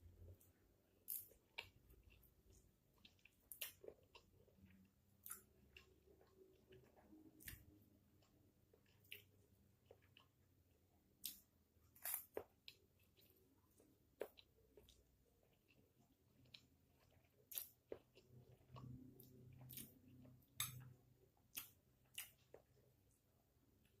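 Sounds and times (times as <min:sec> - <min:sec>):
person chewing noodles: 0:00.3 - 0:10.5, 0:11.2 - 0:23.2.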